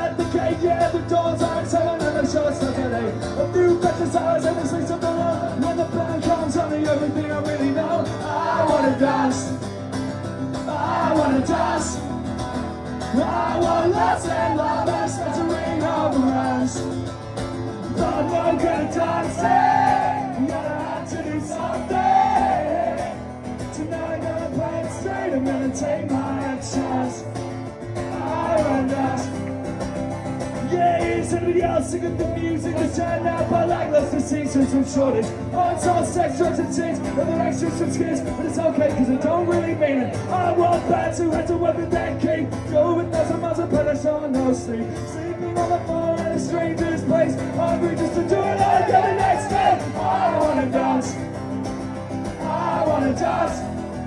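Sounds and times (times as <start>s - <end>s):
man singing: 0.0s - 9.6s, 10.6s - 12.2s, 13.0s - 17.0s, 17.9s - 27.4s, 28.1s - 29.4s, 30.6s - 51.2s, 52.4s - 53.9s
acoustic guitar: 0.0s - 54.0s.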